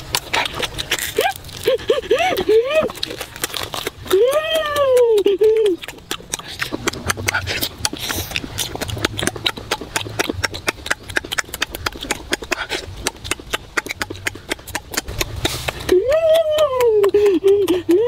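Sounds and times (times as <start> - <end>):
chewing and lip-smacking: 0.0 - 18.0
food crunching: 0.0 - 18.0.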